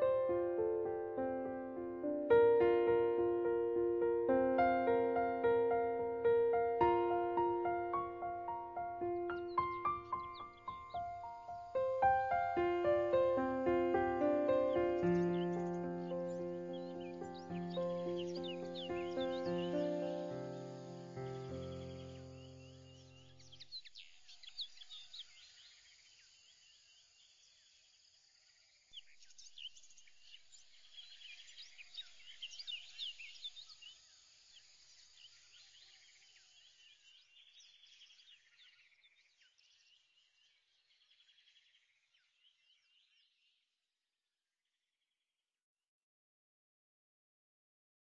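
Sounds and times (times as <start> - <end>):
faint birdsong: 0.0 - 43.8.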